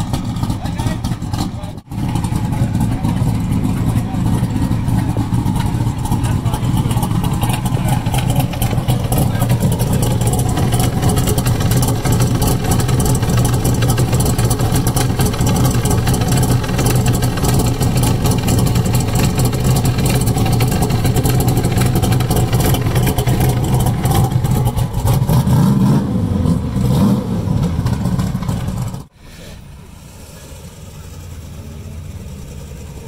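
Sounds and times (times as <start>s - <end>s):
car engine idling loudly: 0.0s - 26.5s, 27.4s - 33.0s.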